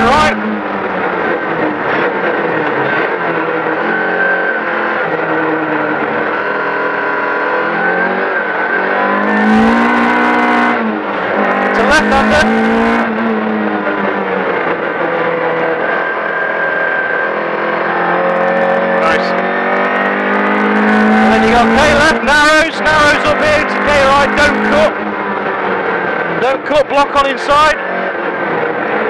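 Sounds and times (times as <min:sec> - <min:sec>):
rally car engine from inside: 0:00.0 - 0:29.0.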